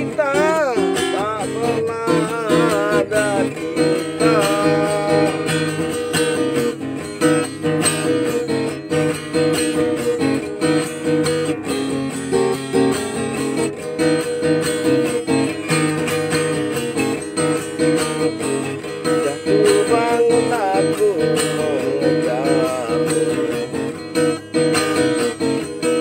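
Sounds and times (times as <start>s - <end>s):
acoustic guitar strummed and picked: 0.0s - 26.0s.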